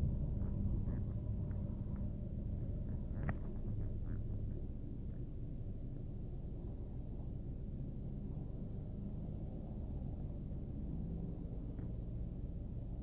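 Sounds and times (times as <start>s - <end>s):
tyre and engine rumble in car: 0.0s - 13.0s.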